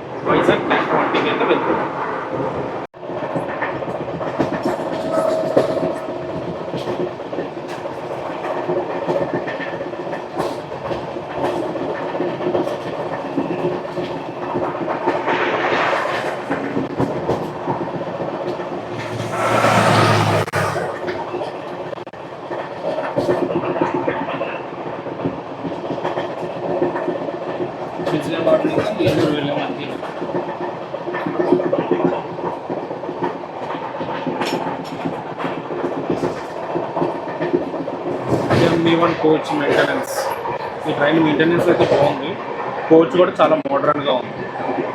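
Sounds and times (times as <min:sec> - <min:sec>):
train coach rumbling: 0:00.0 - 0:44.9
train rushing: 0:00.0 - 0:44.9
wheels clicking on track: 0:03.0 - 0:44.0.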